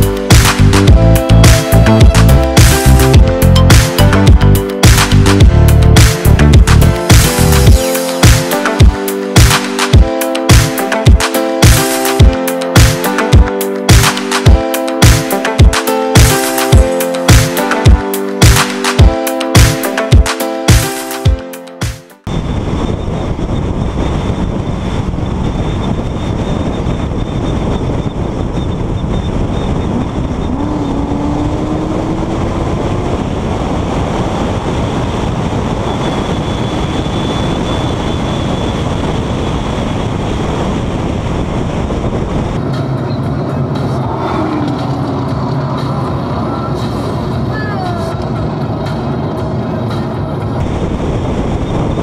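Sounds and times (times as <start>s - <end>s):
low engine drone: 0.0s - 19.2s, 22.2s - 52.0s
road and wind noise: 0.0s - 52.0s.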